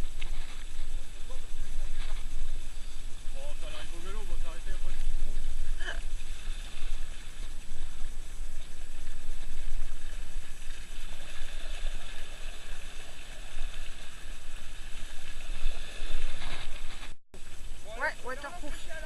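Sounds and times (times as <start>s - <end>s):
wheels rolling through mud: 0.0s - 19.0s.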